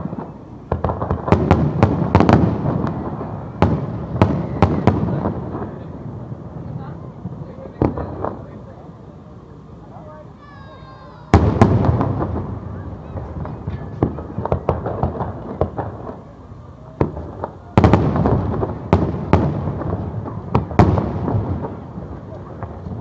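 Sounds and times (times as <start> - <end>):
fireworks bangs and crackling: 0.0 - 10.4, 11.2 - 23.0.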